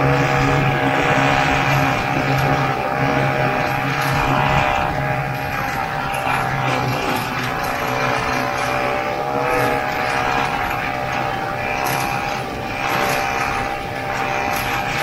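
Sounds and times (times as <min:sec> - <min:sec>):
snowmobile engine running: 0:00.0 - 0:15.0
snowmobile track noise: 0:00.0 - 0:15.0
wind: 0:00.0 - 0:15.0.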